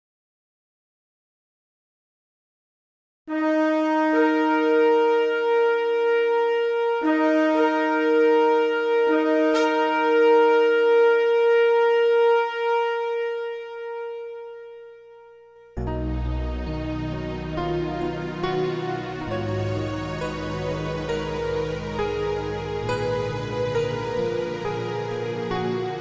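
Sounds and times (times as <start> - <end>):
ram's horns blowing long notes: 3.3 - 26.0.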